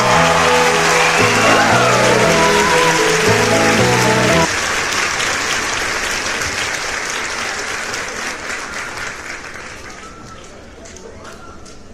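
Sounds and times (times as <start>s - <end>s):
applause: 0.0s - 11.4s.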